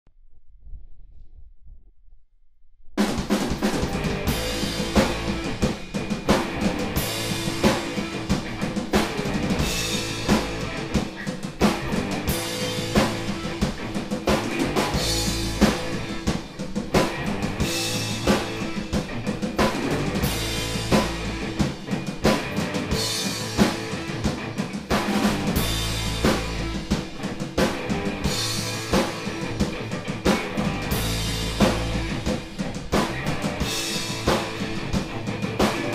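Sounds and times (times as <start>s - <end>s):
instrumental rock band playing: 3.0s - 35.9s
steady drum beat: 3.0s - 35.9s.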